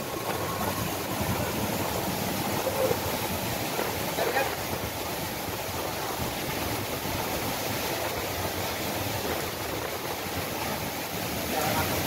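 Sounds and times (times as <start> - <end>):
heavy rain pouring: 0.0 - 12.0
strong wind: 0.0 - 12.0.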